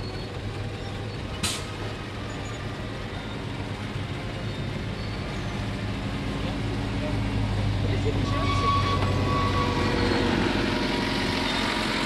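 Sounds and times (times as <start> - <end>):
diesel locomotive engine humming: 0.0 - 12.0.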